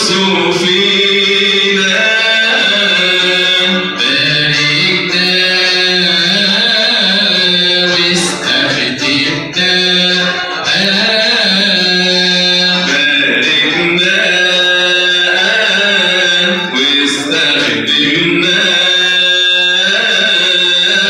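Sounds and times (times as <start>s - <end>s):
men singing a hymn: 0.0s - 21.0s.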